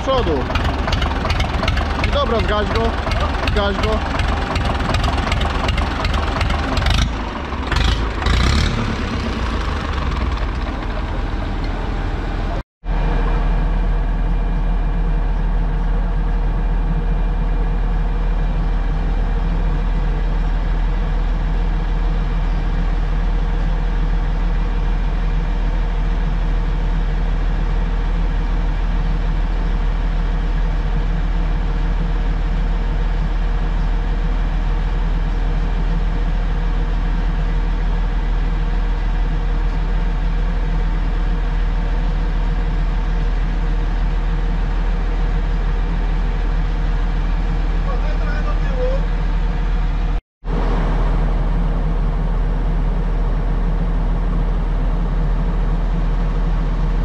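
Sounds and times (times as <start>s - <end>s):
deep engine drone: 0.0s - 57.0s
diesel engine running: 0.0s - 57.0s.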